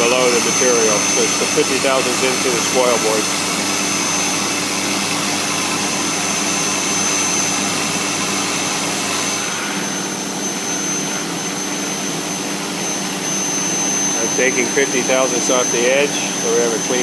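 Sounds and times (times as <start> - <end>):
router spindle cutting wood: 0.0 - 17.0
vacuum pump running: 0.0 - 17.0.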